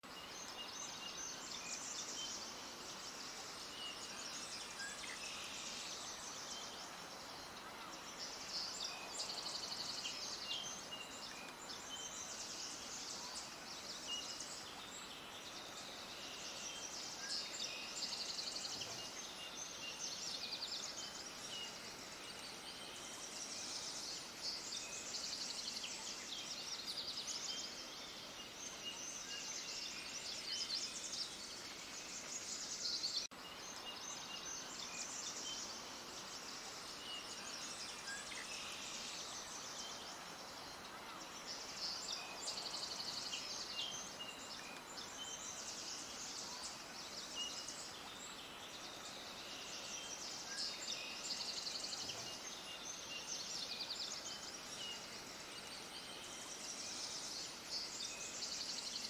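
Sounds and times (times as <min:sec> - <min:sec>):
faint outdoor hiss: 0:00.0 - 0:59.0
small birds chirping and trilling: 0:00.0 - 0:59.0.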